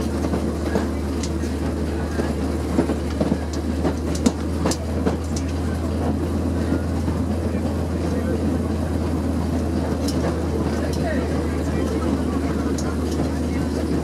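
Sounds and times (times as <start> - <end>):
train rolling low drone: 0.0 - 14.0
wheels clacking over rail joints: 0.0 - 14.0.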